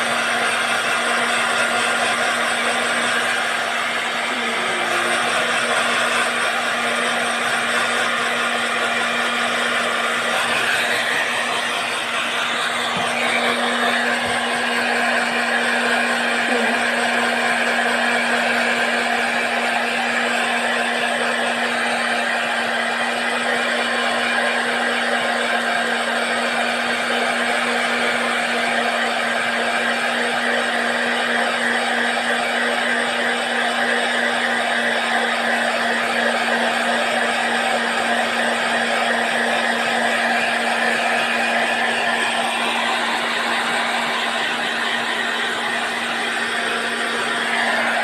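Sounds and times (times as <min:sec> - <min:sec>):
blow dryer running: 0:00.0 - 0:48.0.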